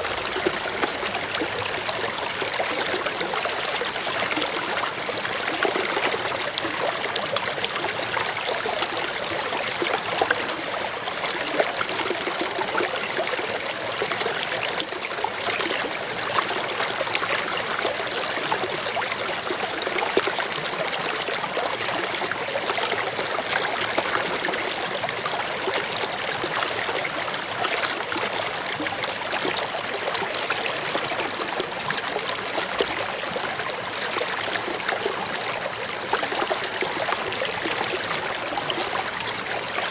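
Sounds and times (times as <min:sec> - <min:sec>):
stream burbling over stones: 0:00.0 - 0:39.9.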